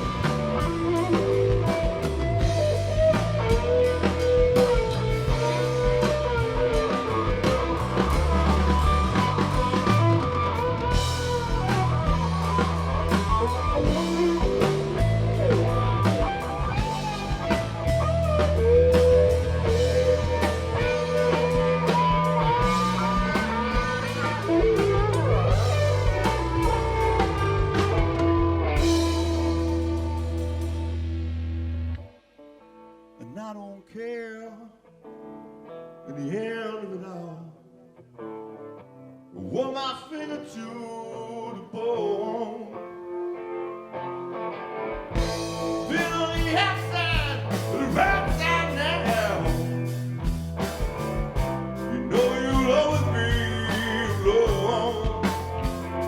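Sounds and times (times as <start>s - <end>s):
guitar lead with bending notes: 0.0s - 33.4s, 34.3s - 56.0s
blues-rock band playing: 0.0s - 33.6s, 37.8s - 56.0s.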